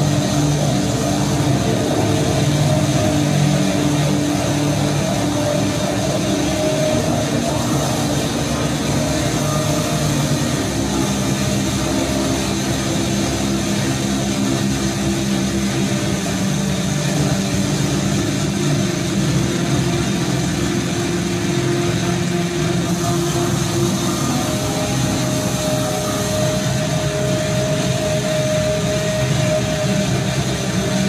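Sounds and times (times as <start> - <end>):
droning low tones: 0.0 - 31.0.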